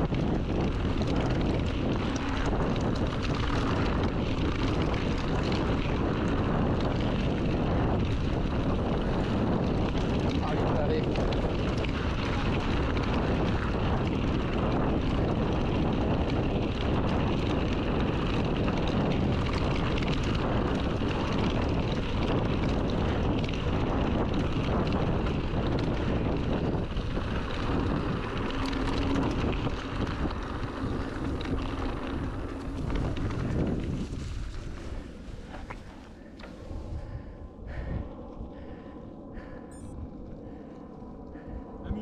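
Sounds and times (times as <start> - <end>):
bike rolling on a trail: 0.0 - 42.0
wind rushing over microphone: 0.0 - 42.0.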